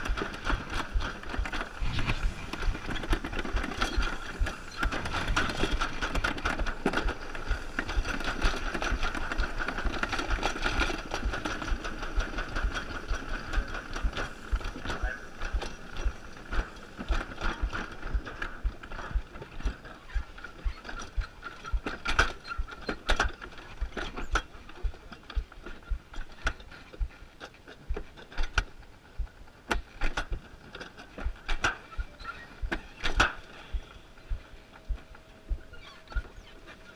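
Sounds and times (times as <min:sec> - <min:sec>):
sled clicking and knocking on track: 0:00.0 - 0:36.9
sled wheels whining: 0:00.0 - 0:36.9.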